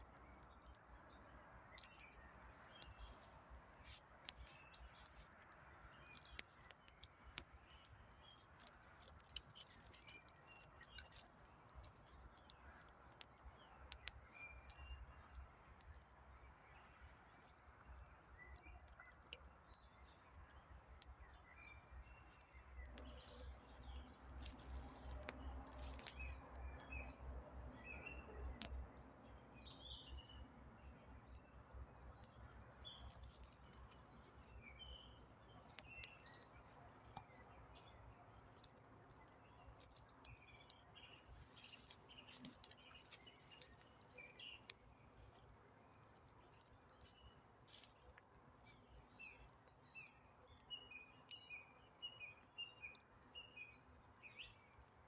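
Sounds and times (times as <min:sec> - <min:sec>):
campfire crackling and popping: 0:00.0 - 0:53.4
small birds chirping: 0:00.0 - 0:55.0.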